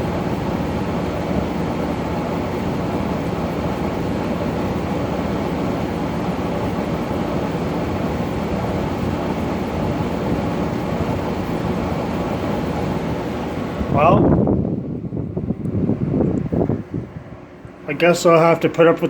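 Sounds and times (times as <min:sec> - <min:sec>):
air conditioner compressor hum: 0:00.0 - 0:19.0
fan air rushing: 0:00.0 - 0:19.0.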